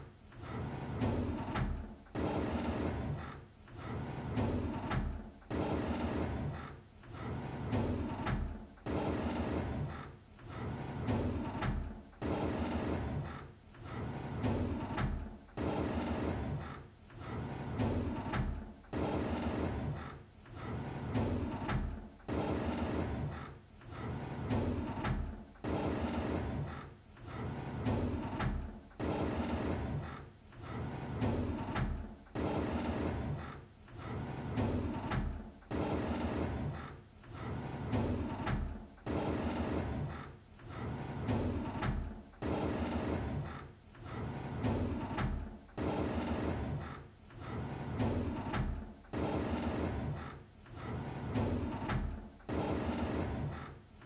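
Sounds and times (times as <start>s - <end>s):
drawer sliding open: 0.4s - 53.8s.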